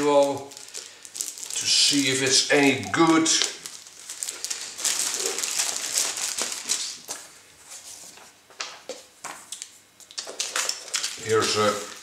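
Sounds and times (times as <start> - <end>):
plastic bag crinkling: 0.0 - 7.4, 9.5 - 12.0.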